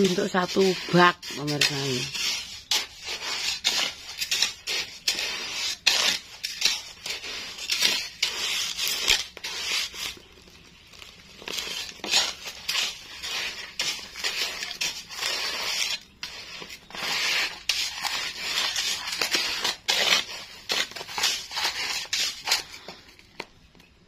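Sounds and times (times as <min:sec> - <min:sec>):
gritty scraping in sand: 0:00.0 - 0:23.2.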